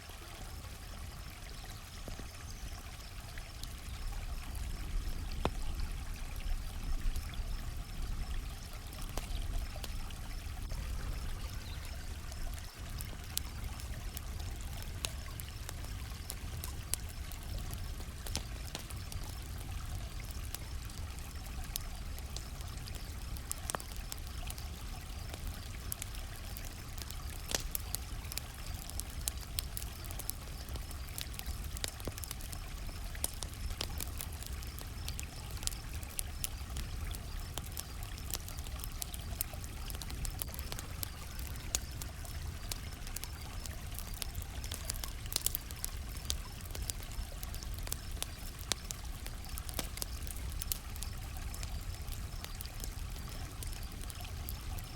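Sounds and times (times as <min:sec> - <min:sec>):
campfire crackling and popping: 0:00.0 - 0:54.9
crickets chirping: 0:02.5 - 0:54.9.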